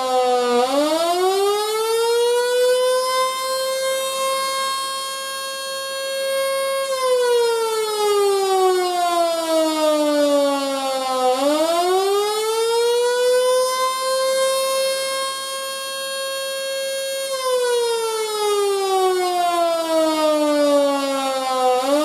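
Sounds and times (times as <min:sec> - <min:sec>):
electric siren wailing: 0:00.0 - 0:22.0.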